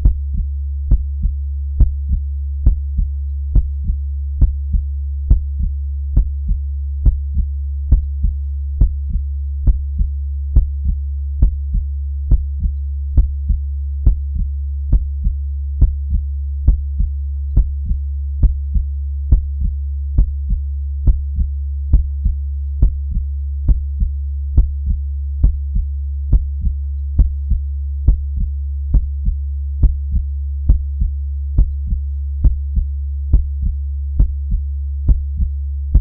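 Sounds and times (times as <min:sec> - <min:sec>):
constant low hum: 0:00.0 - 0:36.0
heartbeat: 0:00.0 - 0:36.0.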